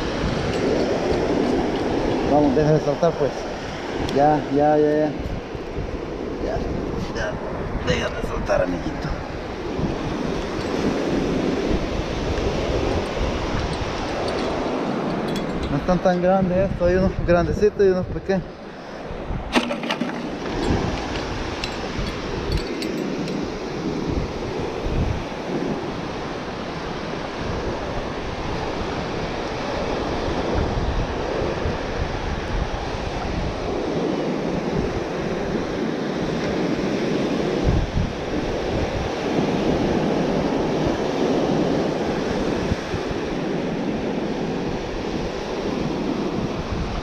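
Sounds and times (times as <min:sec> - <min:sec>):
ocean surf washing onto beach: 0:00.0 - 0:47.0
wind gusting on microphone: 0:00.0 - 0:47.0.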